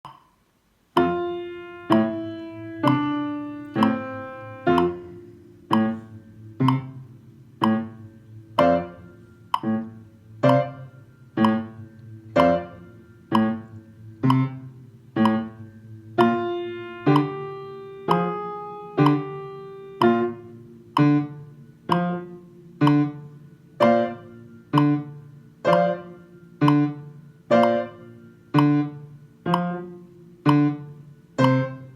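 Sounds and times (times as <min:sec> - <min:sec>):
slow piano notes: 0:00.9 - 0:31.9.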